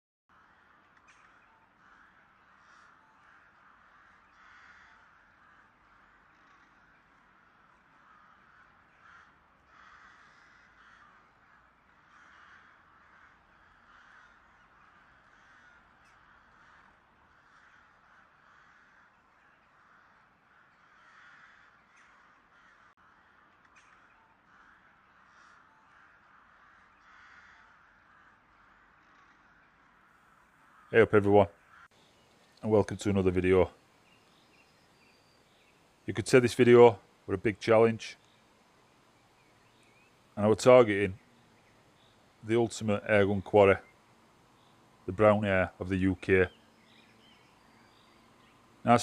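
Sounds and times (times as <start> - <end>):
faint crows cawing: 0.3 - 49.0.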